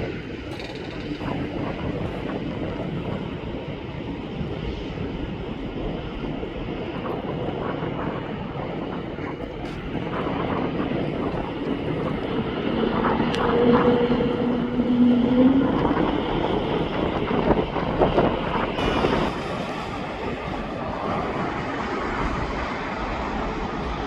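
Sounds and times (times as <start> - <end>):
jet airliner engines rumbling: 0.0 - 24.0.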